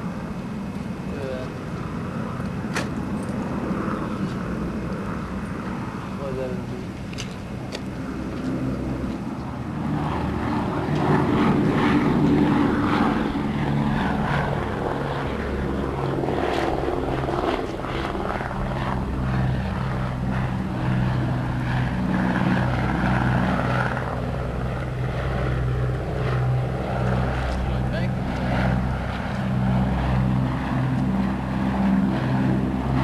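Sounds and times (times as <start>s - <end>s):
propeller plane engines droning: 0.0s - 33.0s.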